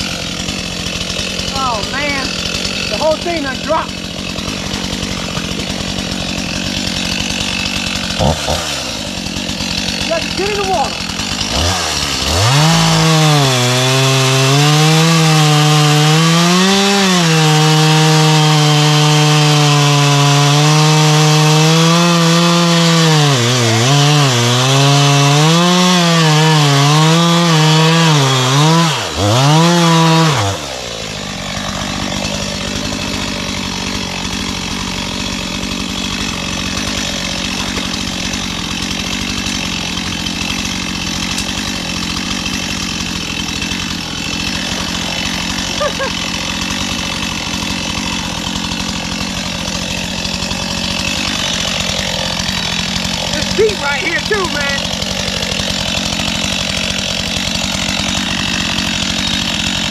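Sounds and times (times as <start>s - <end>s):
chainsaw cutting wood: 0.0s - 59.9s
chainsaw idling: 0.0s - 59.9s.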